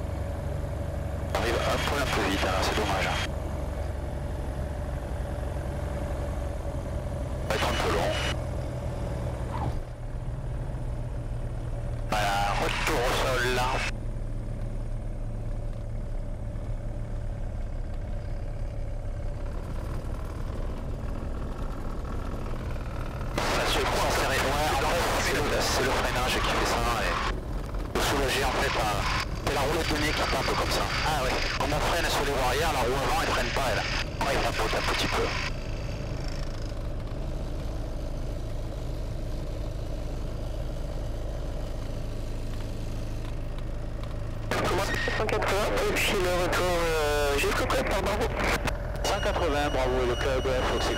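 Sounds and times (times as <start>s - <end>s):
propeller plane engine idling: 0.0s - 9.2s, 9.9s - 50.9s.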